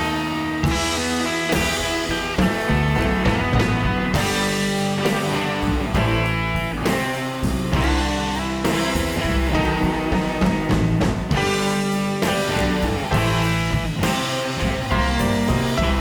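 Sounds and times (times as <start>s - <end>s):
guitar instrumental with drums: 0.0s - 16.0s.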